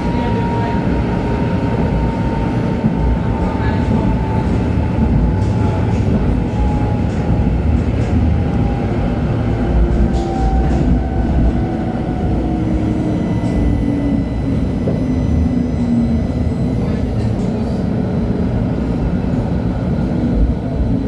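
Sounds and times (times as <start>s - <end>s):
train drive whine: 0.0s - 21.0s
wheels rumbling on rail: 0.0s - 21.0s.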